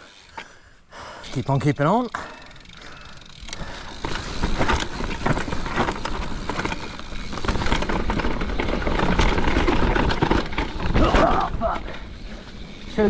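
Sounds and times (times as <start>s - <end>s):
bike tyres rolling over dirt: 1.2s - 13.0s
bike rattling and knocking: 1.6s - 13.0s.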